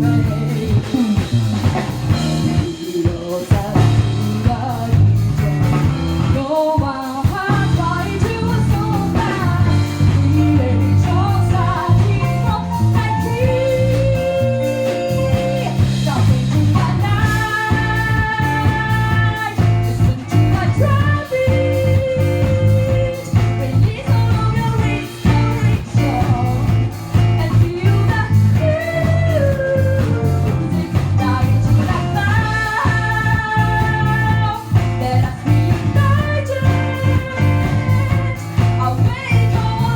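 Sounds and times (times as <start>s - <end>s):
bass guitar: 0.0s - 39.9s
drums: 0.0s - 39.9s
electric guitar: 0.0s - 39.9s.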